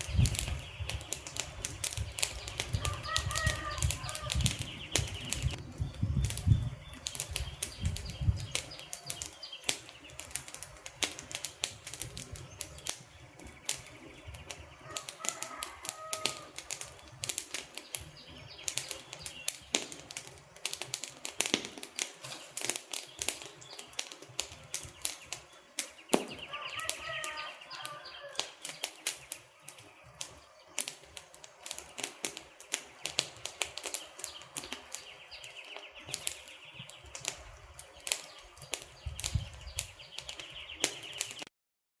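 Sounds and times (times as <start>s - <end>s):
burning logs crackling: 0.0s - 41.5s.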